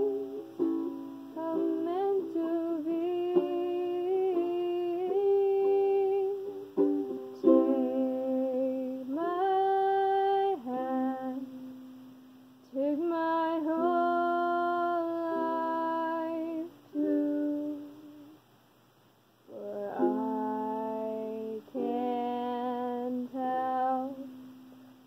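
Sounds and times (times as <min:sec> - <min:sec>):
woman humming a slow melody: 0:00.0 - 0:11.8, 0:12.6 - 0:18.4, 0:19.5 - 0:24.8.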